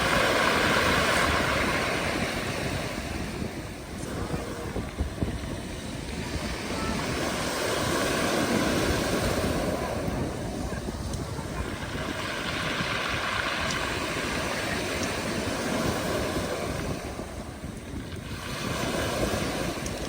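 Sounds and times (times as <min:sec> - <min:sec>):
waves breaking on beach: 0:00.0 - 0:20.0.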